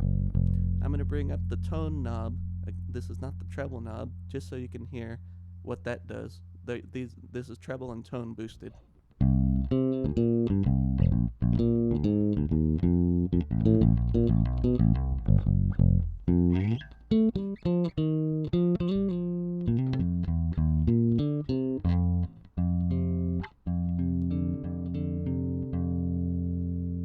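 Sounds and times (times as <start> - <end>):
plucked electric bass notes: 0.0 - 6.0, 9.2 - 27.0.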